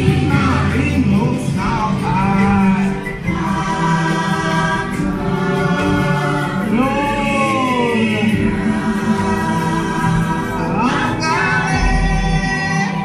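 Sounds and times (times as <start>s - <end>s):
choir singing over music: 0.0s - 13.0s.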